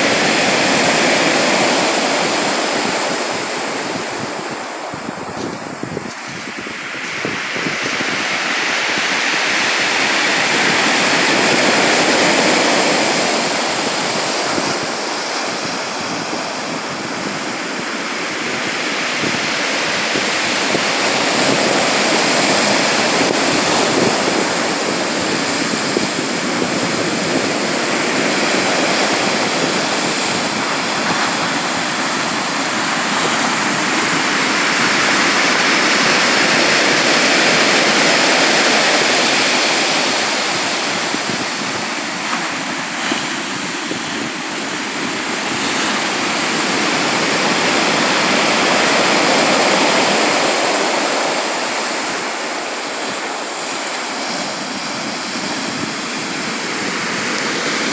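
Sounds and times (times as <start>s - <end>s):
sea waves washing onto shore: 0.0s - 57.9s.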